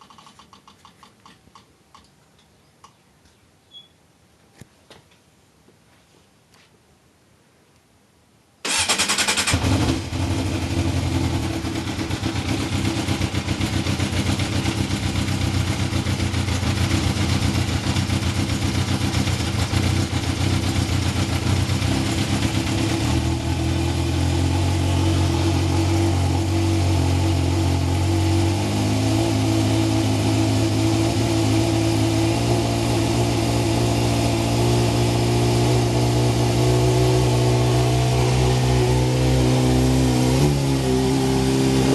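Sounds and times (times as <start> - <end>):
motorcycle engine starting and idling: 0.0 - 2.1, 8.6 - 41.9.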